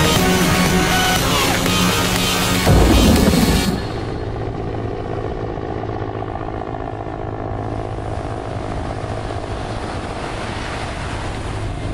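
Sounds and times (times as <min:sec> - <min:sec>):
aircraft engine droning: 0:00.0 - 0:11.9.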